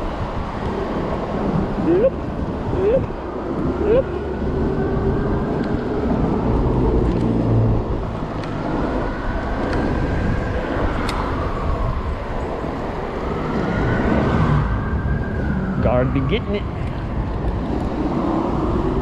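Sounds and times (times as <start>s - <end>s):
tyre and wind rumble: 0.0s - 19.0s.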